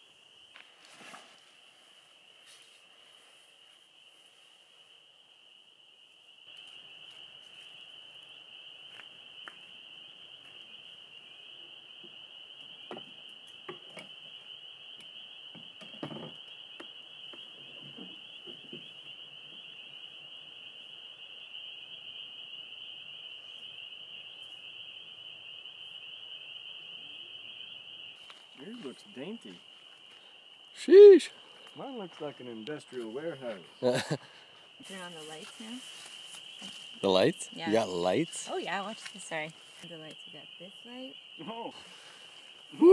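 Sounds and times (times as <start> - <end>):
frogs chorus high-pitched: 5.4 - 42.9.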